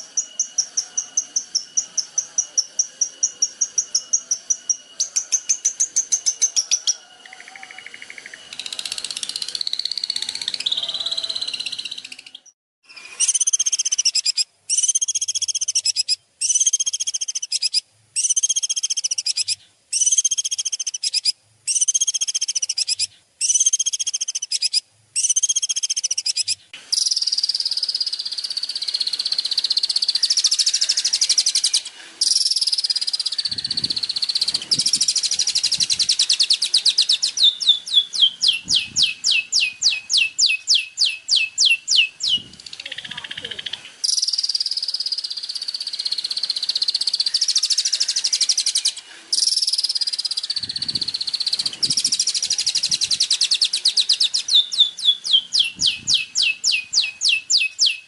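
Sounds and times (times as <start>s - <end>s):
songbird trilling: 0.0s - 58.0s.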